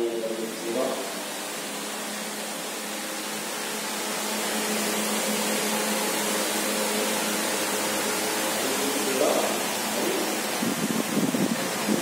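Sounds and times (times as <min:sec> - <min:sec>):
fan hum and hiss: 0:00.0 - 0:12.0.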